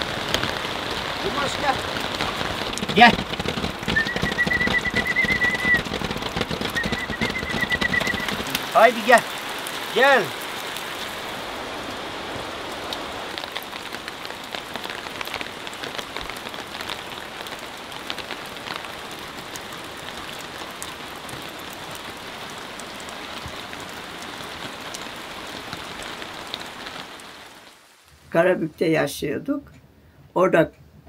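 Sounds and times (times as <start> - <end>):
sharp raindrop hits: 0.0 - 28.3
steady rain falling: 0.0 - 29.8.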